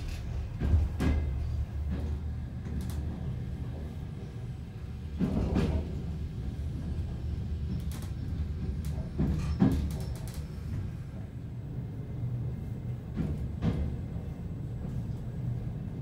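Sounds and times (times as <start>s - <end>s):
train carriage rumbling: 0.0s - 16.0s.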